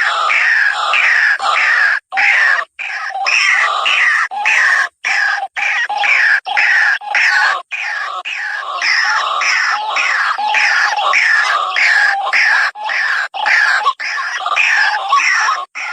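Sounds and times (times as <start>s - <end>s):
waterhen harsh croaking calls: 0.0s - 15.9s.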